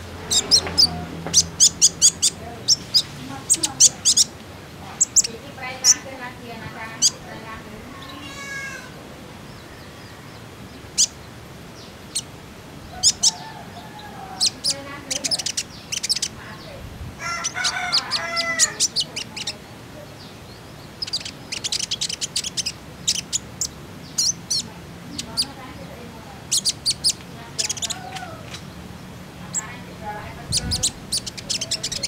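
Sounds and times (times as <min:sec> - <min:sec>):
bird chirps and trills: 0:00.0 - 0:32.0
lower-pitched wavering bird calls: 0:00.0 - 0:32.0.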